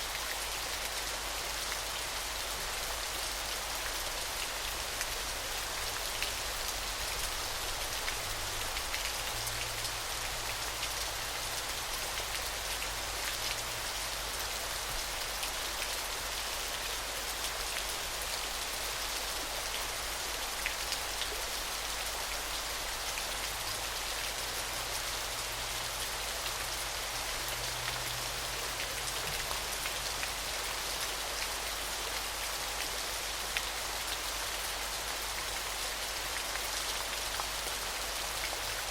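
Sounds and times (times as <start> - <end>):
water splashes and drips: 0.1 - 38.9.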